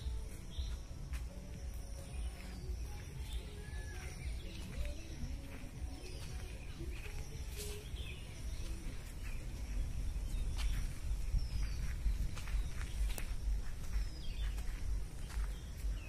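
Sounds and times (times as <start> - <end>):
footfalls on dirt path: 0.0 - 16.0.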